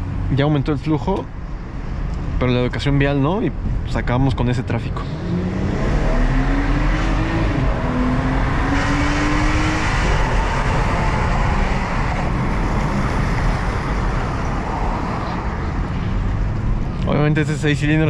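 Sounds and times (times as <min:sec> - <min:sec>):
car engine accelerating: 0:00.0 - 0:18.0
road noise: 0:00.0 - 0:18.0.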